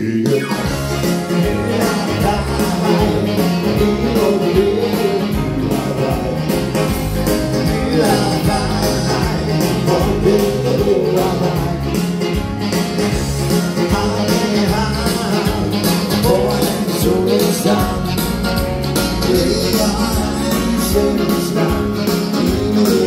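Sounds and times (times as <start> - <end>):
dance band music with singing: 0.0 - 23.0.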